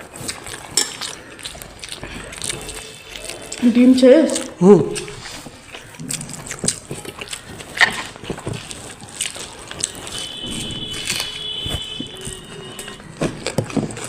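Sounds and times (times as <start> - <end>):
chewing and lip-smacking: 0.0 - 14.0.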